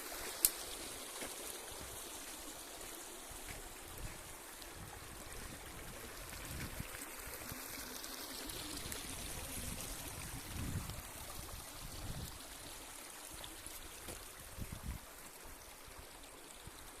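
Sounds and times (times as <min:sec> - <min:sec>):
stream babbling over stones: 0:00.0 - 0:17.0.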